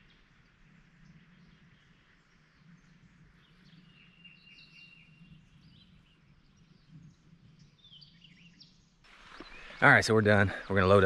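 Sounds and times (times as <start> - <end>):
songbird calls: 0.0 - 11.0.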